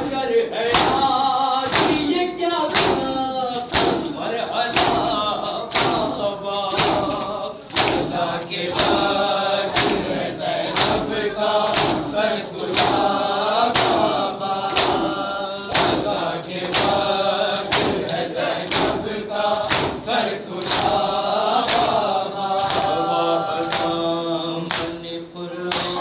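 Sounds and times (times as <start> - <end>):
men chanting a lament: 0.0 - 26.0.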